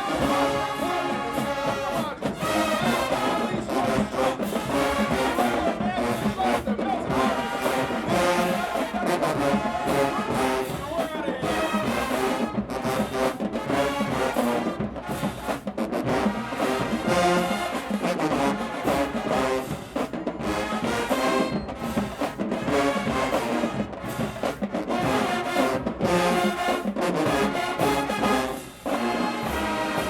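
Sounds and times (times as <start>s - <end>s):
marching band brass playing: 0.0s - 30.0s
trombones: 0.0s - 30.0s.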